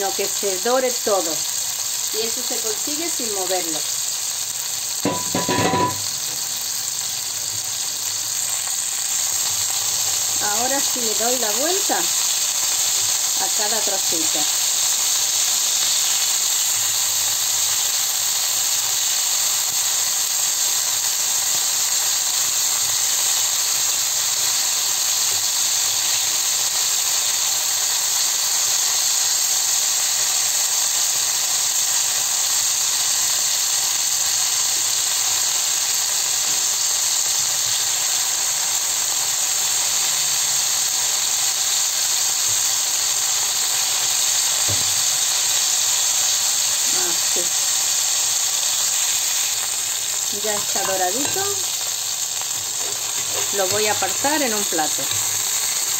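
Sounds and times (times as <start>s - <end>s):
chicken sizzling in a frying pan: 0.0s - 55.9s.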